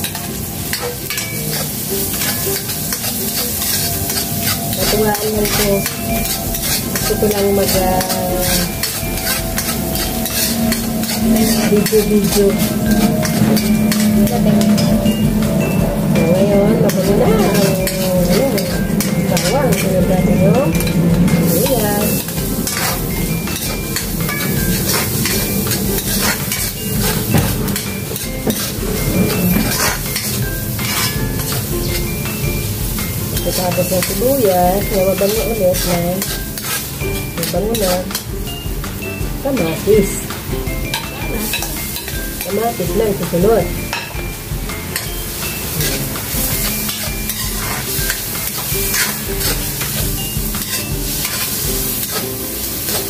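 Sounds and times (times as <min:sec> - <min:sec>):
metal ladle scraping pan: 0:00.0 - 0:38.3, 0:40.9 - 0:44.2, 0:44.8 - 0:53.0
garlic and onion sizzling in oil: 0:00.0 - 0:53.0.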